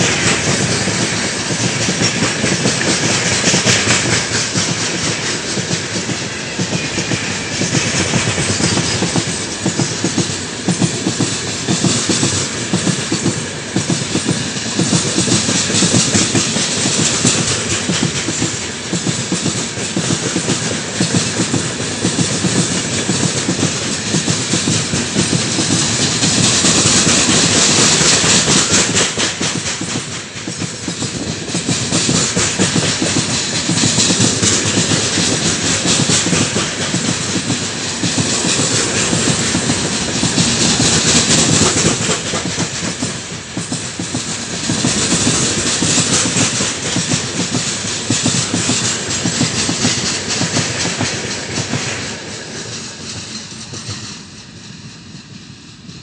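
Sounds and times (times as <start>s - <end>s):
clickety-clack over rail joints: 0.0s - 56.0s
steel wheels rushing on rail: 0.0s - 56.0s.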